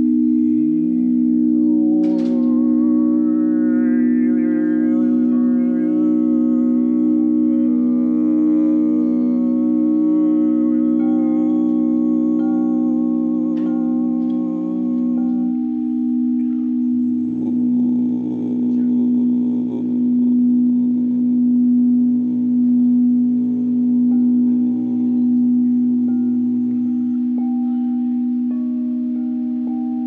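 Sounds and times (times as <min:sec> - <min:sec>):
low droning hum: 0:00.0 - 0:30.0
singing bowls ringing: 0:00.0 - 0:30.0.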